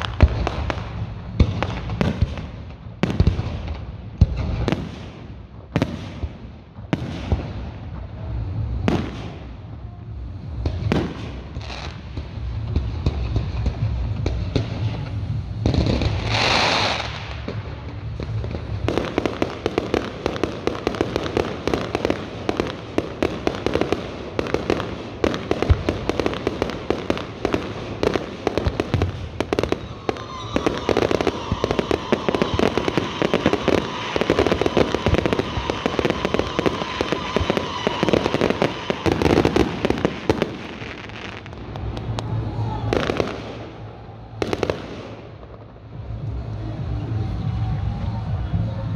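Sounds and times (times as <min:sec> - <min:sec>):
firework whoosh: 0:00.0 - 0:48.9
fireworks crackling and popping: 0:00.0 - 0:48.9.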